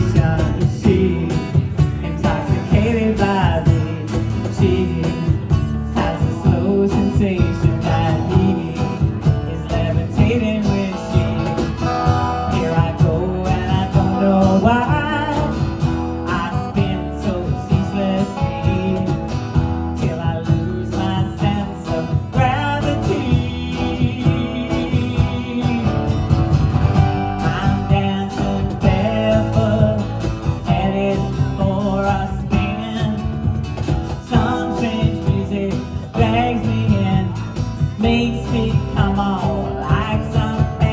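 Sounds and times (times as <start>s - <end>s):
acoustic guitars strummed: 0.0s - 40.9s
bass: 0.0s - 40.9s
cajon beat: 0.0s - 40.9s
electric guitar: 0.0s - 40.9s.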